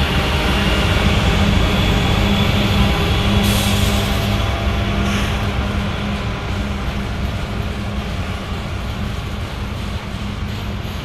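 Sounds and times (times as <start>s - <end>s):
deep rumble of moving train: 0.0s - 11.0s
locomotive engine drone: 0.0s - 11.0s.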